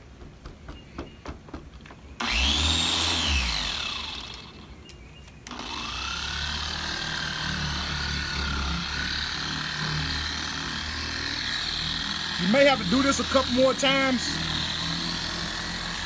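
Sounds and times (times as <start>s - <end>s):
car polisher motor whine: 2.2s - 4.6s, 5.5s - 16.0s.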